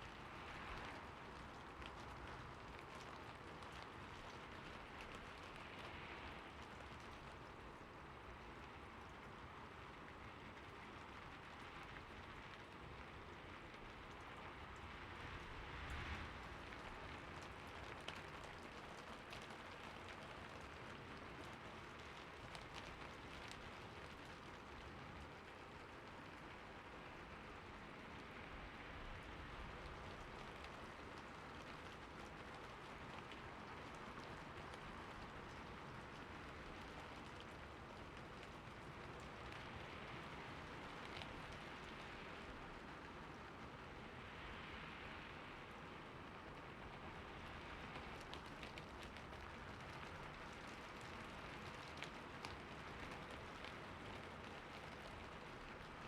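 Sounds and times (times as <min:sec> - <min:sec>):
rain falling: 0:00.0 - 0:56.0
ticks of raindrops: 0:00.0 - 0:56.0.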